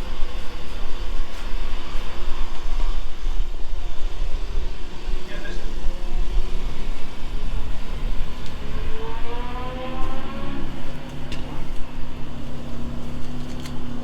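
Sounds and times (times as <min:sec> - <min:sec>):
low rumble of wind noise: 0:00.0 - 0:14.0
motorcycle engine running: 0:00.0 - 0:14.0.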